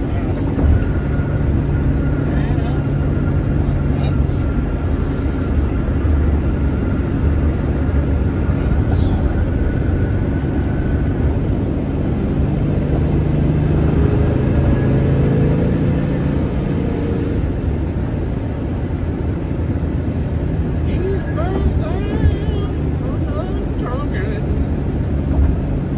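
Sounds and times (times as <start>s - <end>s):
car engine: 0.0s - 25.9s
road rumble: 0.0s - 25.9s.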